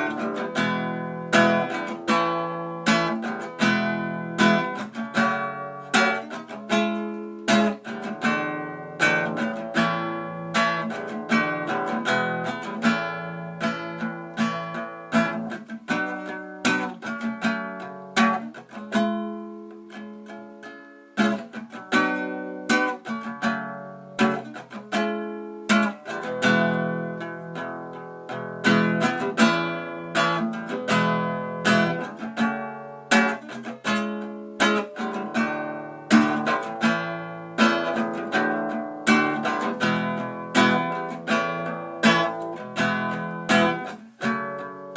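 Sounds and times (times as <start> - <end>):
acoustic guitar chords: 0.0 - 44.9.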